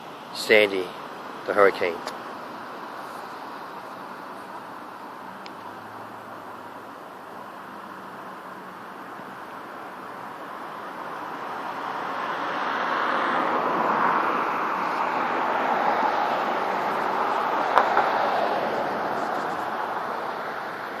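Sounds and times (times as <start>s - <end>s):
car passing: 0.0s - 21.0s.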